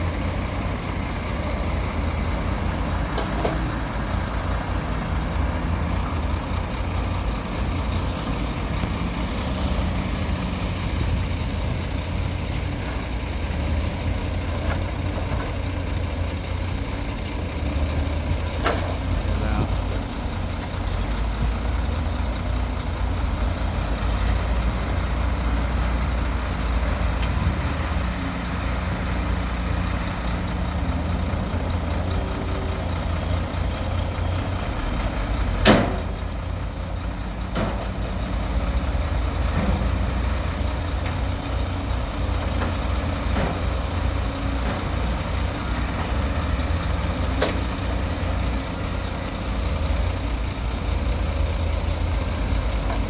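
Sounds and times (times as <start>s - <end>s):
heavy diesel machinery running: 0.0s - 53.0s.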